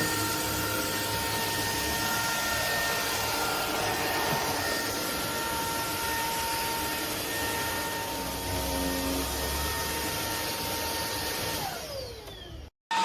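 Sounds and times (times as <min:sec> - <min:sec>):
stick vacuum running: 0:00.0 - 0:13.0.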